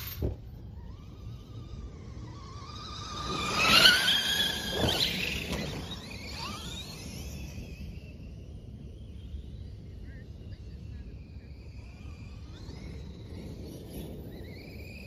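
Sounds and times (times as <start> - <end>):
electric rc truck motor whining: 0.0 - 10.0, 11.1 - 15.0.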